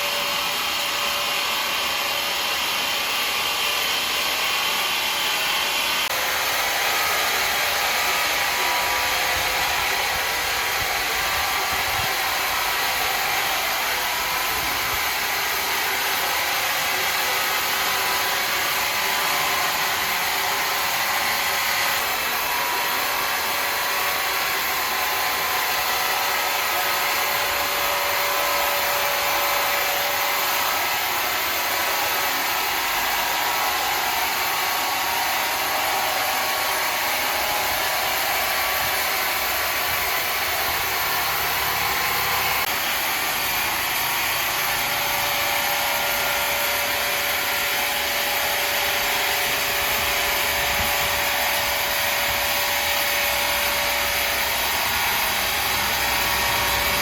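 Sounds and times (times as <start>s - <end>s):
woodworking saw whirring: 0.0s - 57.0s.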